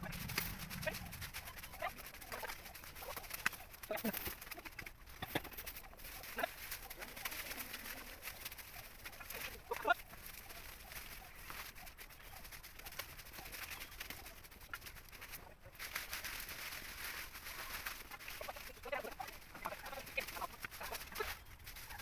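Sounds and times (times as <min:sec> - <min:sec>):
birds calling: 0:00.0 - 0:14.7, 0:17.3 - 0:22.0.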